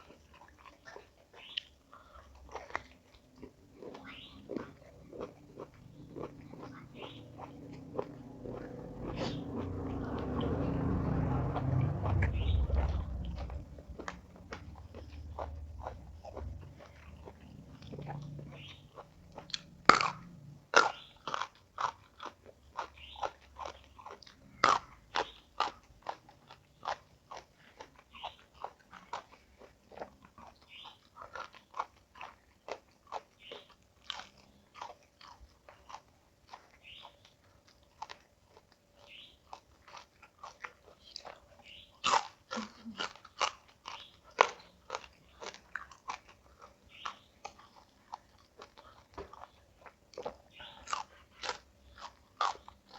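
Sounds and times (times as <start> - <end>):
chewing crisp food: 0.0 - 52.9.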